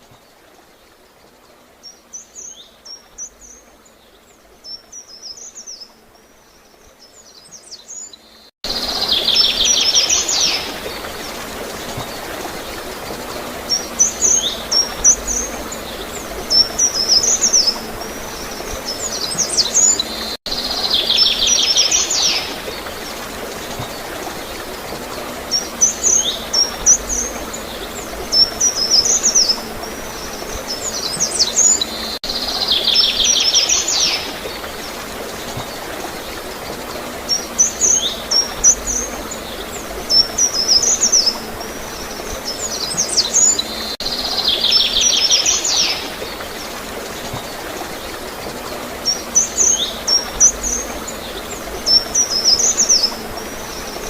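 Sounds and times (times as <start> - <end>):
flowing water: 0.0 - 54.0
birds chirping with buzzy trill: 0.8 - 54.0.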